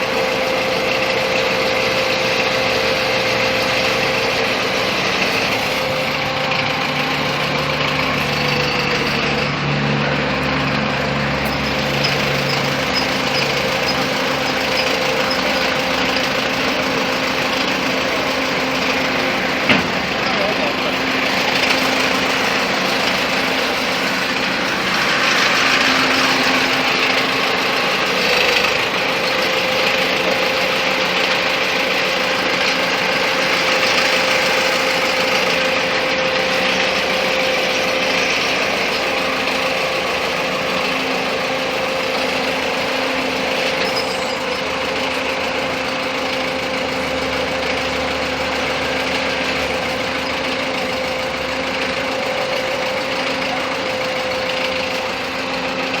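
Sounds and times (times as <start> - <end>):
steady whine: 0.0 - 56.0
truck engine idling: 0.0 - 56.0.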